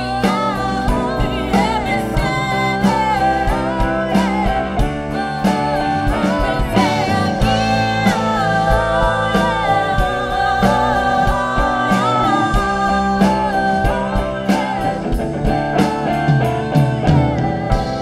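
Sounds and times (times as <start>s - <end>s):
drum kit beat: 0.0s - 18.0s
electric guitar: 0.0s - 18.0s
female backing singer: 0.0s - 18.0s
keyboard: 0.0s - 18.0s
woman singing lead vocals: 0.0s - 18.0s.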